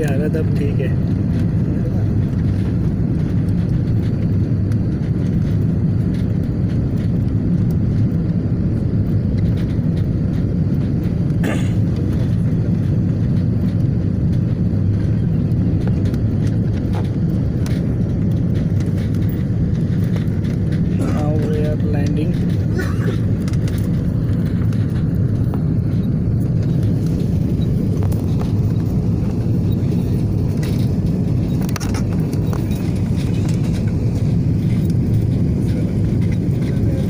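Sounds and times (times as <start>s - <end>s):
airliner cabin engine rumble: 0.0s - 37.0s.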